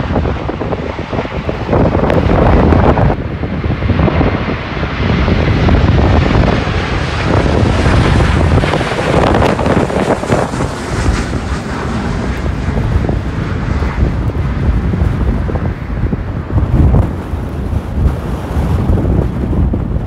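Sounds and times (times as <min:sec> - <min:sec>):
jet airliner passing overhead: 0:00.0 - 0:20.0
wind buffeting microphone: 0:00.0 - 0:20.0.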